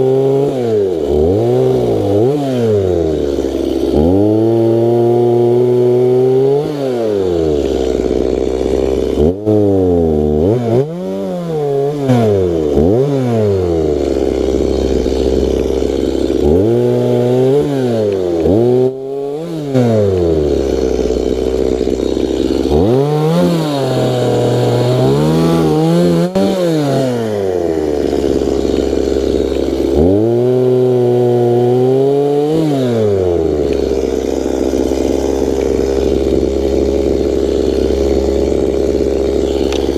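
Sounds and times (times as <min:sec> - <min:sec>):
wood chipper engine bogging: 0:00.0 - 0:39.9.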